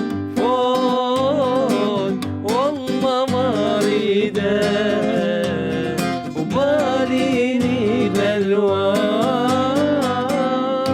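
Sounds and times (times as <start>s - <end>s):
acoustic guitar: 0.0s - 10.9s
man singing: 0.0s - 10.9s.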